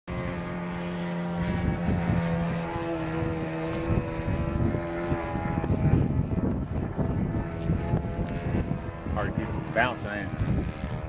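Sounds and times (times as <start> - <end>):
model airplane motor whine: 0.1 - 11.0.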